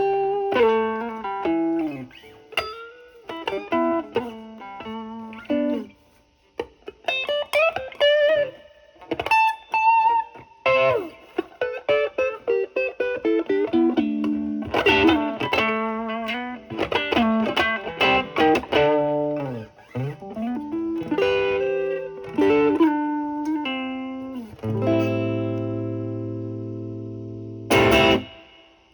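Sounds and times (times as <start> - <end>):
overdriven electric guitar lead: 0.0 - 28.8.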